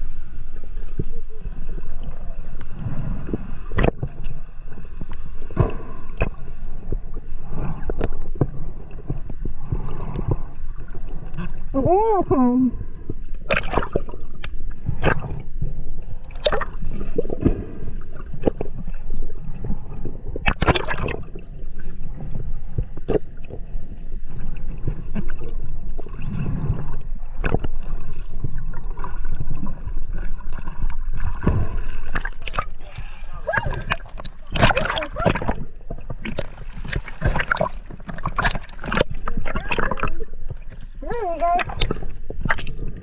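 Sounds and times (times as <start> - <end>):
muffled underwater water wash: 0.0 - 43.0
gurgling bubbles: 1.0 - 43.0.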